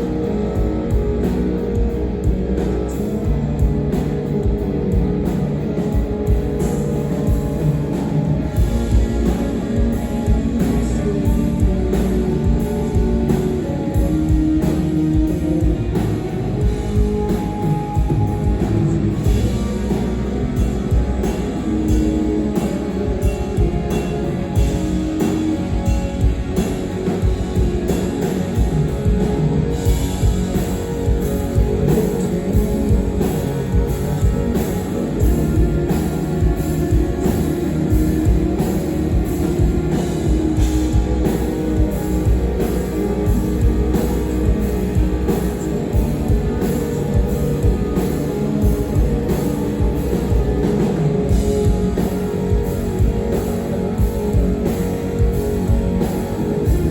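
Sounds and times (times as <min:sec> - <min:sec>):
distorted electric guitars: 0:00.0 - 0:56.9
drum kit beat: 0:00.0 - 0:56.9
heavy rock band playing: 0:00.0 - 0:56.9.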